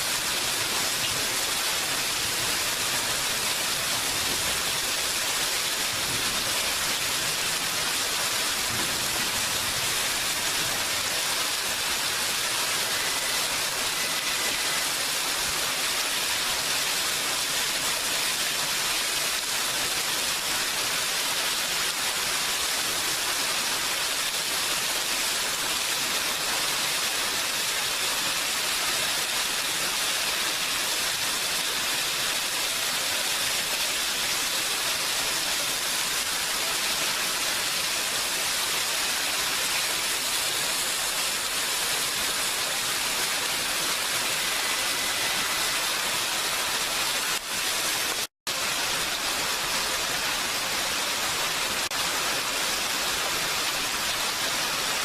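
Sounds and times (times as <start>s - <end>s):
dense rain hiss: 0.0s - 55.0s.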